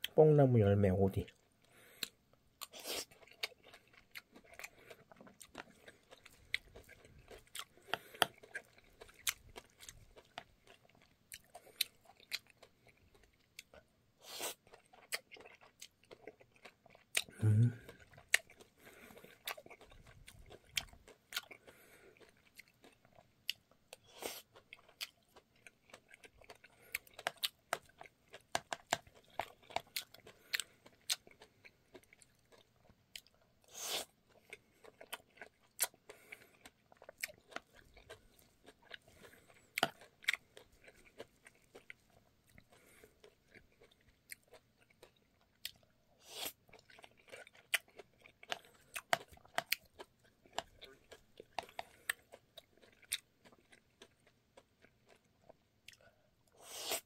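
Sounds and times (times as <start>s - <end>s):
chewing with mouth clicks: 1.2s - 57.0s.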